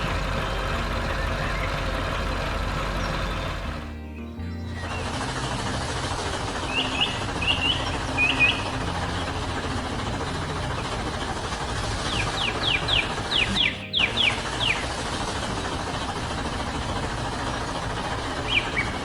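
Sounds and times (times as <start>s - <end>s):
low engine hum: 0.0s - 19.0s
small birds chirping: 0.0s - 19.0s.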